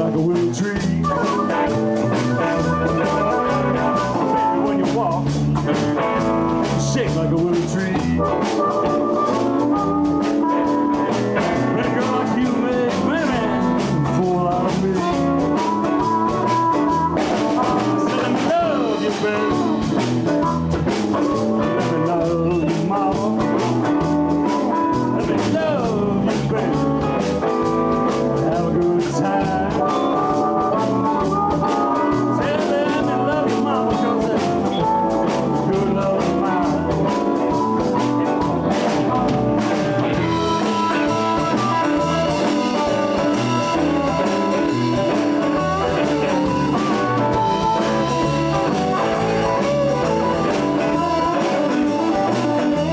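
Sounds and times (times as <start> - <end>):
blues band playing: 0.0 - 52.9
electric guitar bent notes: 0.0 - 52.9.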